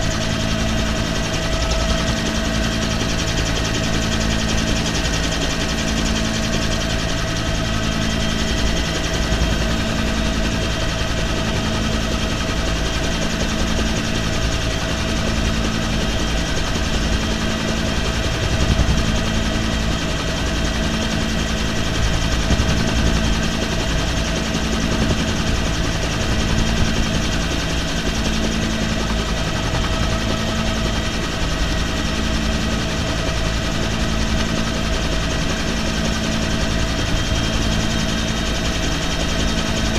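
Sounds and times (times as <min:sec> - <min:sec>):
helicopter engine and rotor: 0:00.0 - 0:39.9
low pulsing hum: 0:00.0 - 0:39.9.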